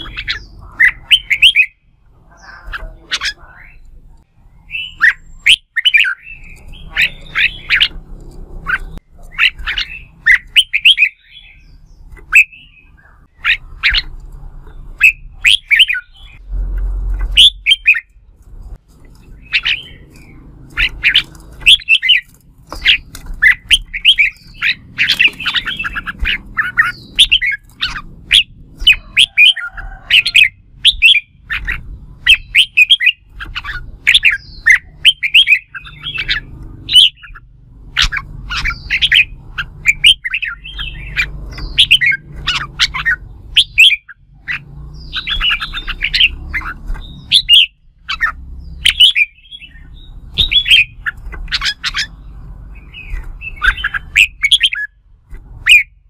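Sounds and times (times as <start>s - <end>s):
bird singing warbling phrases: 0.0s - 16.5s, 17.1s - 56.0s.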